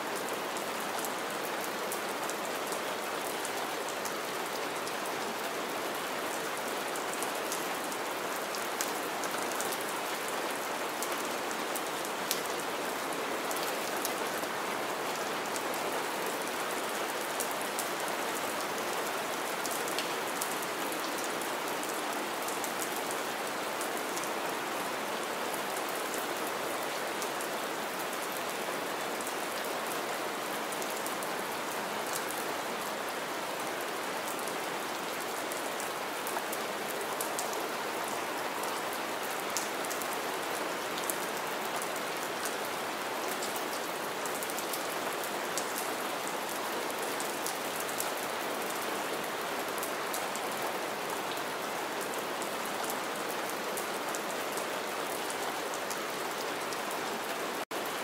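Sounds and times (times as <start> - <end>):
rain on standing water: 0.0 - 58.0.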